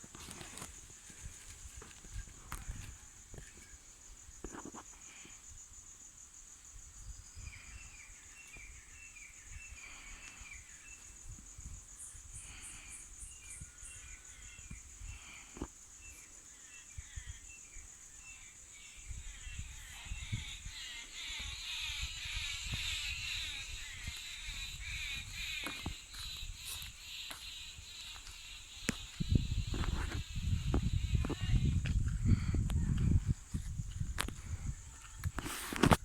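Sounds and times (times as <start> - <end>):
high-pitched insect trill: 0.1 - 36.0.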